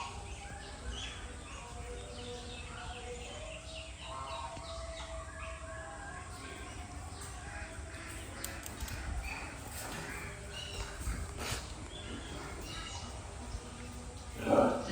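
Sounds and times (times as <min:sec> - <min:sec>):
animals chirping and squeaking: 0:00.0 - 0:14.9.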